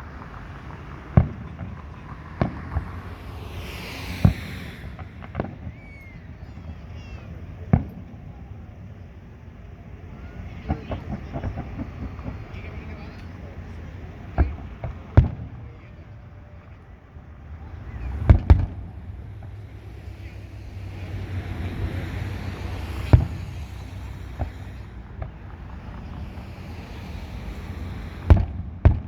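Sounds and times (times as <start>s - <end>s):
fireworks bangs: 0.0s - 29.0s
low rumble and hiss: 0.0s - 29.0s
small fireworks pops: 0.0s - 29.0s.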